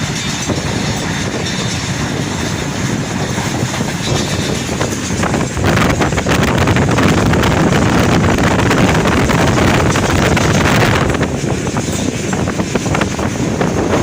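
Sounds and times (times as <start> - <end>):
train rumbling at speed: 0.0 - 14.0
wind buffeting microphone: 0.0 - 14.0.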